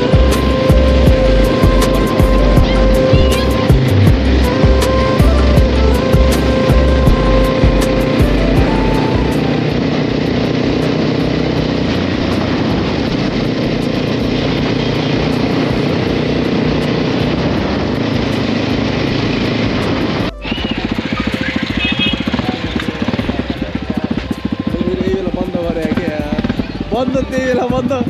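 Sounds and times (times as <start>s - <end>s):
motorcycle engine idling: 0.0s - 28.0s
motorcycle engine running: 0.0s - 28.0s
road and wind noise: 0.0s - 28.0s.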